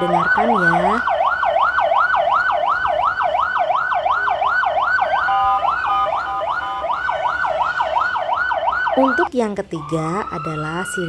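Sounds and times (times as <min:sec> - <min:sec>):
fire engine siren yelping: 0:00.0 - 0:11.0
steady blaring tone: 0:00.0 - 0:11.0.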